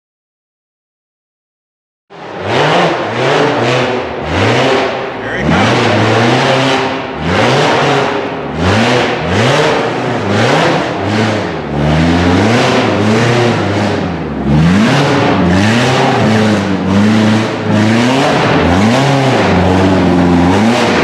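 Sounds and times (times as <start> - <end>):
engine revving: 2.1 - 21.0.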